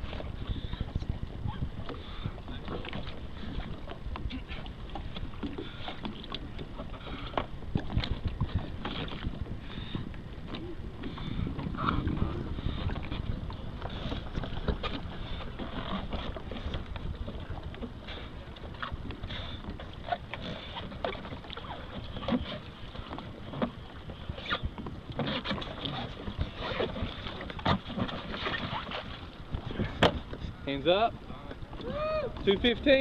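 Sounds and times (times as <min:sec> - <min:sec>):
water lapping against kayak hull: 0:00.0 - 0:33.0.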